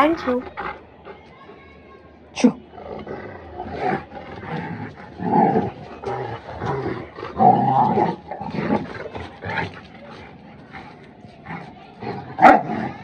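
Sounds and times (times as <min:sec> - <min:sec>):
dogs growling: 0:00.3 - 0:01.3, 0:02.4 - 0:13.0.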